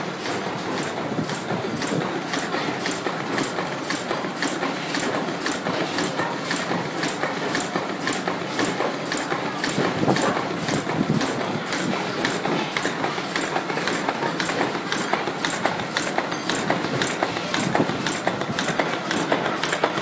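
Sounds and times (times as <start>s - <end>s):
machine clattering: 0.0s - 20.0s.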